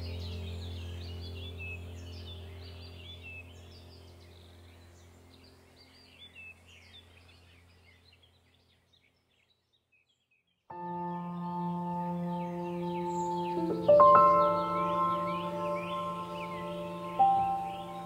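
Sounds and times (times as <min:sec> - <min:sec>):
ambient music with low drone: 0:00.0 - 0:08.0, 0:10.7 - 0:18.0
birdsong chirping: 0:00.0 - 0:18.0.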